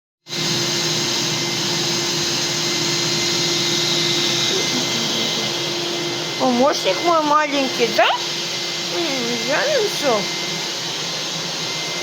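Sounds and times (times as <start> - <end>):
vacuum cleaner running: 0.3 - 12.0.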